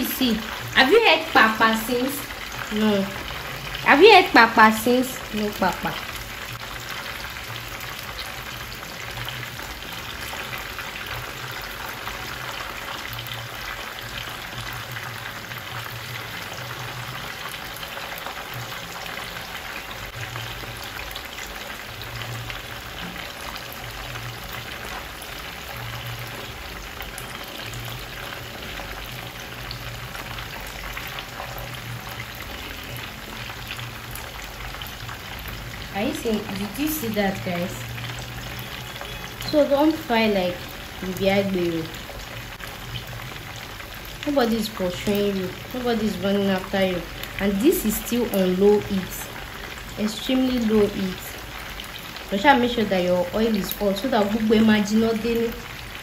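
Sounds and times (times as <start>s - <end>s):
fish frying in oil: 0.0s - 56.0s.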